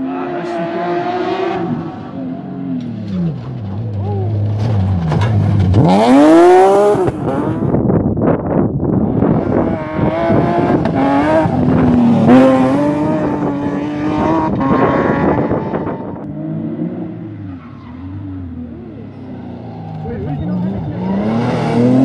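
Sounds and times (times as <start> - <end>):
faint rally car engine approaching: 0.0 - 22.0
rally car engine at full throttle: 0.0 - 22.0.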